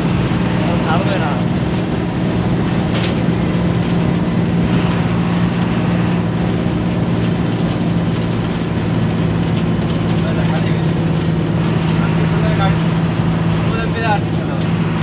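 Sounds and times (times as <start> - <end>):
bus engine droning: 0.0 - 15.0
road noise: 0.0 - 15.0.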